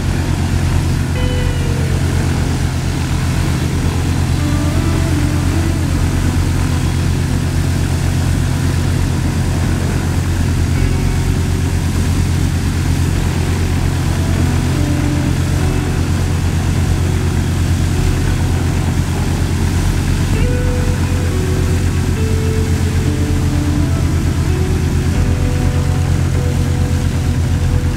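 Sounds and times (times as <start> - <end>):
twin propeller engines idling: 0.0 - 27.9.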